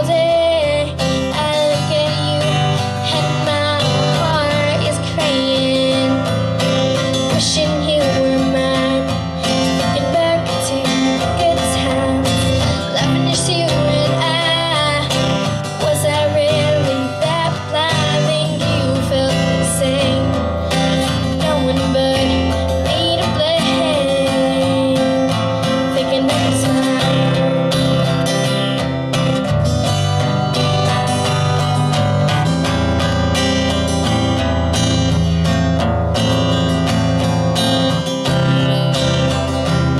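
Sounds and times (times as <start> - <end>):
person singing: 0.0 - 34.3
acoustic guitar strumming: 0.0 - 39.9.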